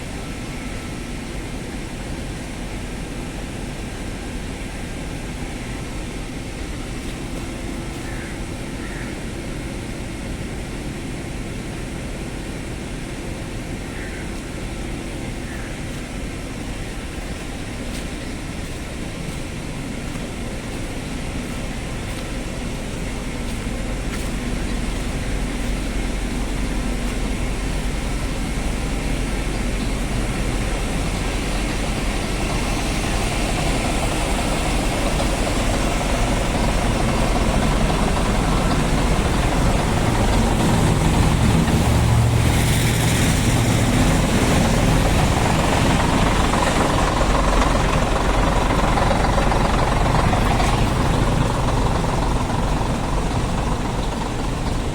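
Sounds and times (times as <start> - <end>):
truck engine running: 9.4 - 54.9.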